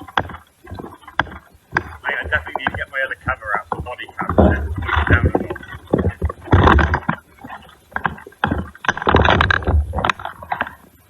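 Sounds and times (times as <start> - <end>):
microphone handling noise: 0.0 - 11.0.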